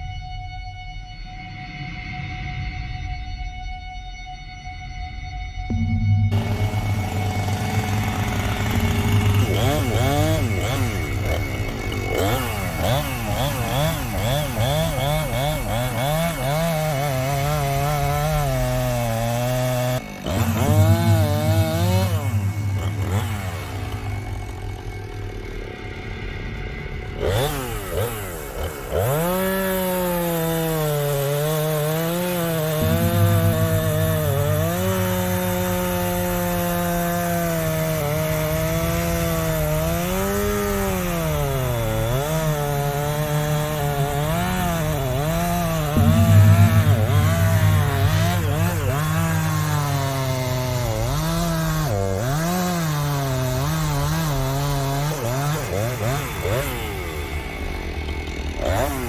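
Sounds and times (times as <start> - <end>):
chainsaw cutting wood: 5.7 - 26.1, 27.0 - 59.0.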